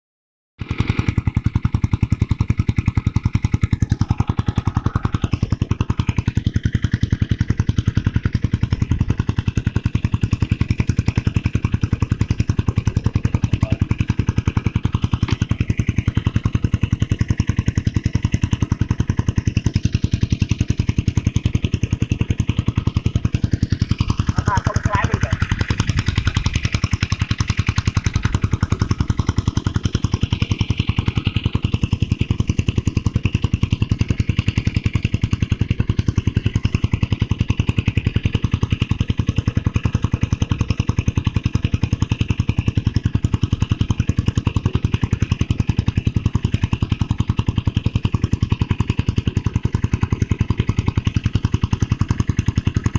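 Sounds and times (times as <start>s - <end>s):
small engine running: 0.6s - 52.9s.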